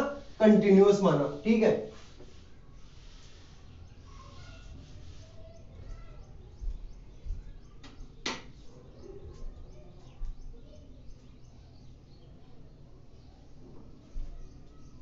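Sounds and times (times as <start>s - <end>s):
faint bird chirps: 2.5s - 15.0s.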